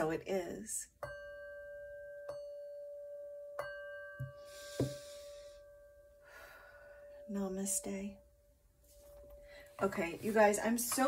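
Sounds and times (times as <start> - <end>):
singing bowl ringing: 1.0 - 10.4.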